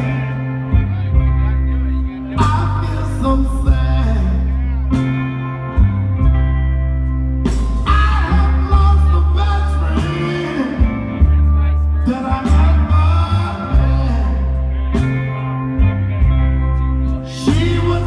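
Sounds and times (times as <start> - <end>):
man singing: 0.0 - 5.8, 7.8 - 18.0
soul band playing live: 0.0 - 18.0.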